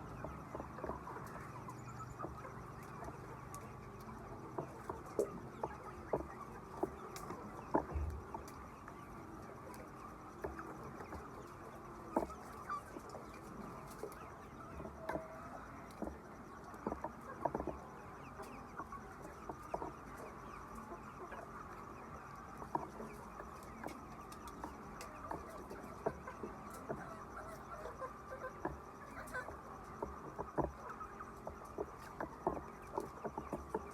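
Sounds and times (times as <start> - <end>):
chickens clucking: 0.0 - 33.9
steady background noise: 0.0 - 33.9.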